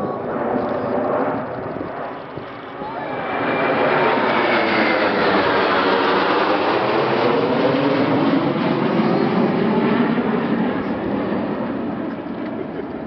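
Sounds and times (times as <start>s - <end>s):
jet aircraft roar: 0.0s - 13.0s.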